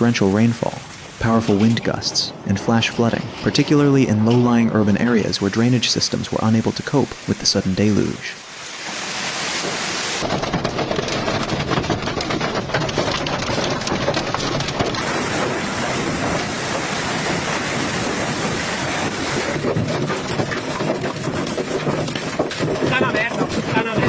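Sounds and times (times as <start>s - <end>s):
heavy rain on hard surfaces: 0.0s - 2.3s, 5.2s - 24.0s.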